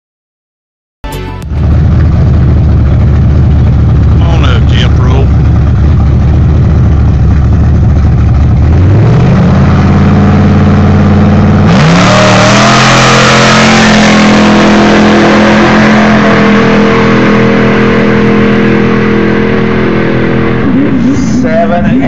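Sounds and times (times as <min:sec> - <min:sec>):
pickup truck engine revving: 0:01.5 - 0:22.0.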